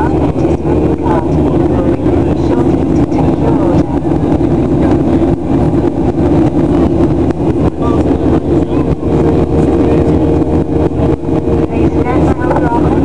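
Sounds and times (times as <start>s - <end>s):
jet engine noise in cabin: 0.0s - 13.0s
steady tone: 0.0s - 13.0s.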